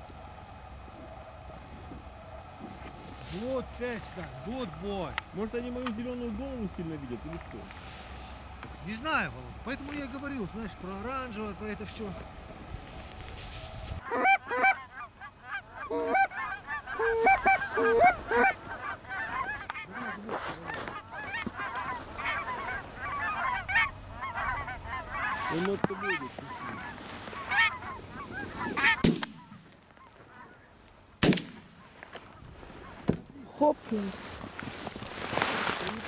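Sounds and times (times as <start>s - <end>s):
geese honking: 0.0s - 12.6s, 13.3s - 34.1s.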